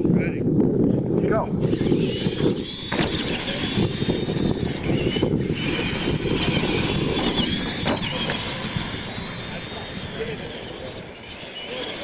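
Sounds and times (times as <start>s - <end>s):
toy truck motors whining: 1.6s - 12.0s.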